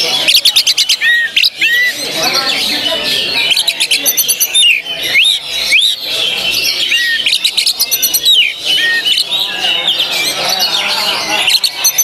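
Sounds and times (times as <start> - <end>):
songbird whistling and chirping: 0.0 - 12.0.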